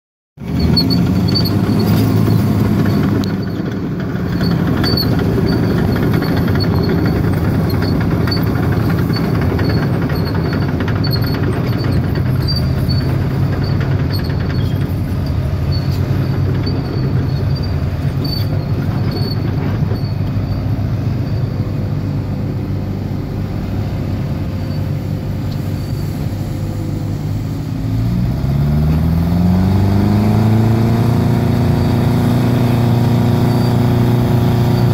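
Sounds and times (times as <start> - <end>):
heavy diesel engines revving: 0.4 - 34.9.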